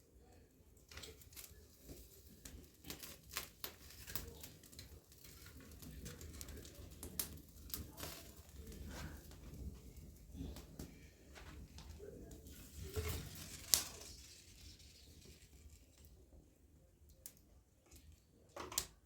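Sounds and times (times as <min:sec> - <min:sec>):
low rumble of fire: 0:00.0 - 0:18.9
fire crackling and snapping: 0:00.2 - 0:19.0.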